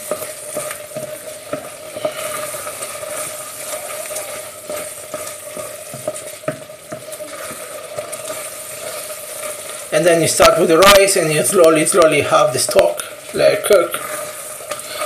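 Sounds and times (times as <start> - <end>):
spoon scraping and knocking a pan: 0.0 - 12.9
rice sizzling and bubbling in a pan: 0.0 - 15.0.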